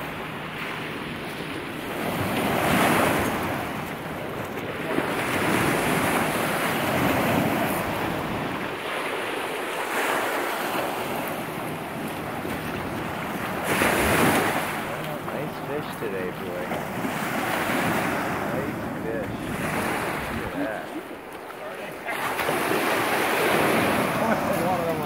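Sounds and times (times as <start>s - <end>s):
lake waves washing on shore: 0.0s - 25.0s
wind buffeting microphone: 0.8s - 21.4s.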